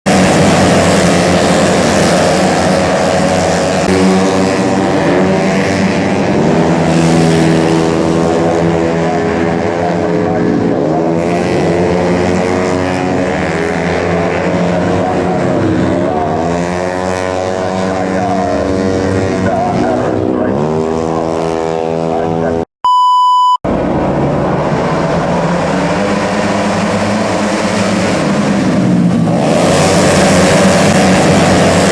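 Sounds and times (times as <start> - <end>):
scooter engines revving: 0.0 - 22.7, 23.7 - 31.9.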